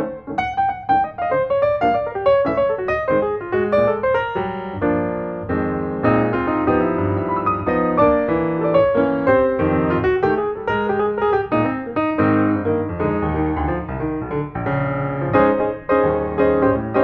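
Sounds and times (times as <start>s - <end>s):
piano music with quick notes: 0.0s - 17.0s.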